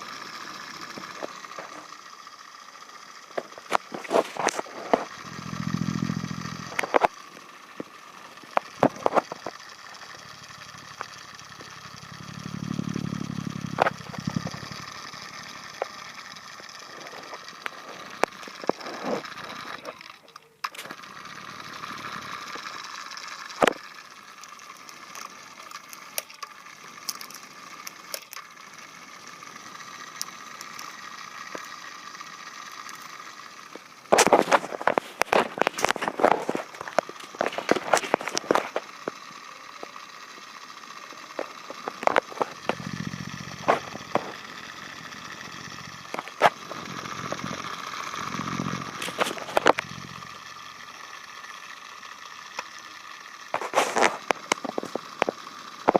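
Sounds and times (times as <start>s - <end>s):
small electric motor whining: 0.0s - 55.9s.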